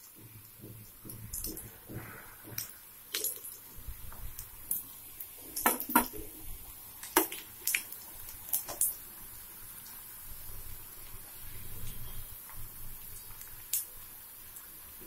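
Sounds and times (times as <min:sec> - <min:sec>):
deep-frying oil sizzling: 0:00.0 - 0:15.0.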